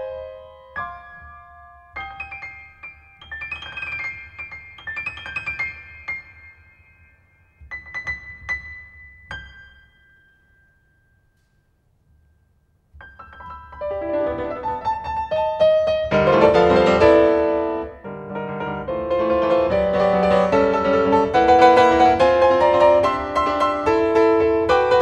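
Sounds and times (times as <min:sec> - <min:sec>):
piano playing: 0:00.0 - 0:25.0.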